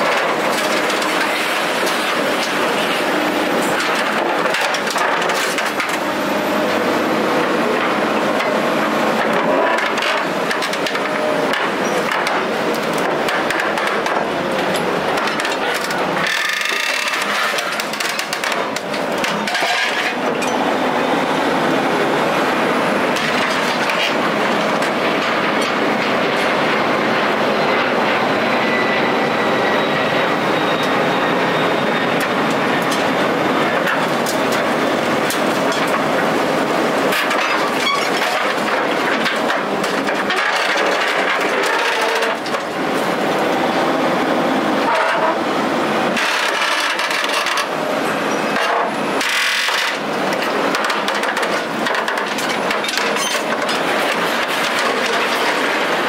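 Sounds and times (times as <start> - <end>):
loud mechanical noise: 0.0 - 56.0.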